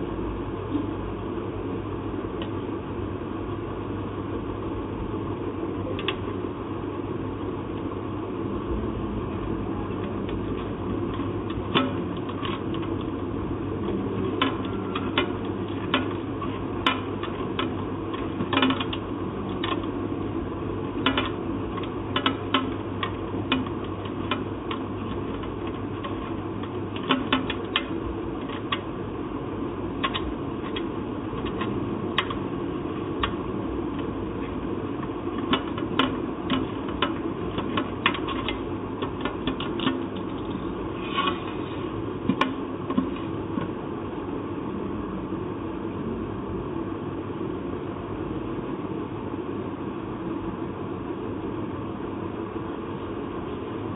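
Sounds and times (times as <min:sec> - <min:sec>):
steady background hum: 0:00.0 - 0:53.9.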